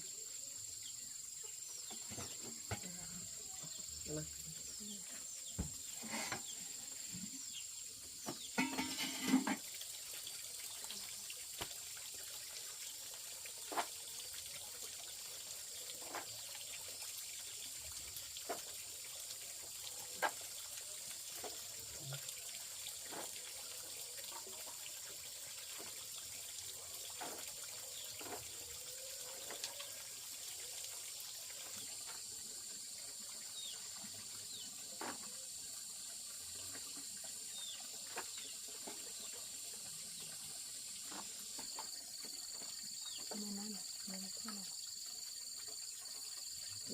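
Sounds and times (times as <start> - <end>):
small water drips: 0.0 - 46.9
water trickling: 0.0 - 46.9.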